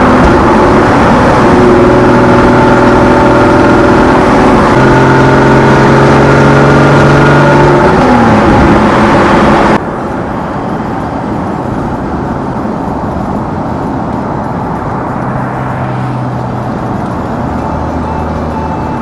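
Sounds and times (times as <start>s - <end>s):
car engine: 0.0s - 19.0s
road noise: 0.0s - 19.0s.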